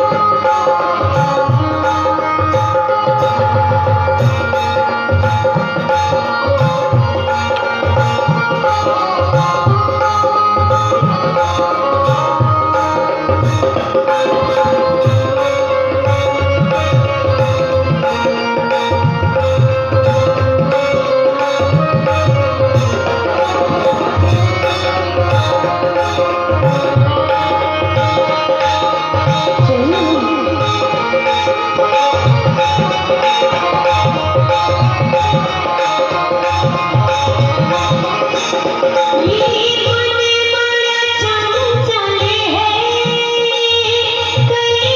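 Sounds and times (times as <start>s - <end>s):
tabla rhythm: 0.0s - 44.9s.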